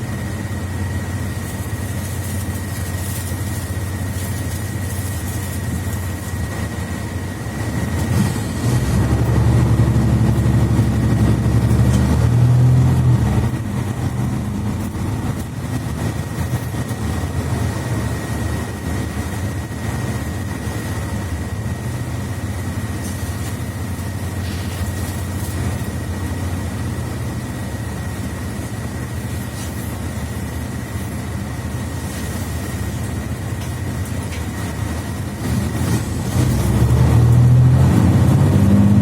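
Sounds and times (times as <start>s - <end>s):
bus engine drone: 0.0s - 39.0s.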